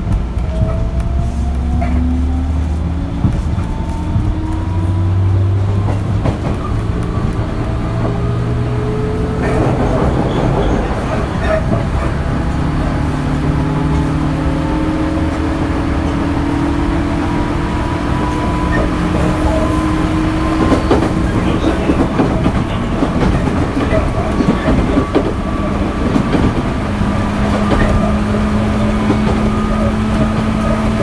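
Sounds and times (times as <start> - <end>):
train traction motor whine: 0.0 - 31.0
wheel and track rumble: 0.0 - 31.0.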